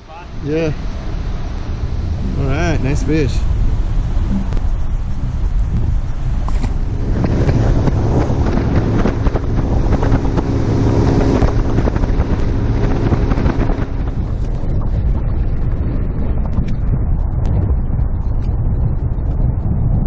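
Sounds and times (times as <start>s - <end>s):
boat motor hum: 0.0s - 19.6s
wind buffeting microphone: 0.0s - 20.0s.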